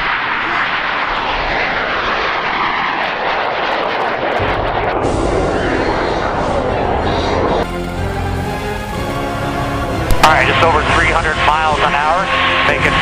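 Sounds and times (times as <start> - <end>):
jet engine roaring with whine: 0.0 - 13.0.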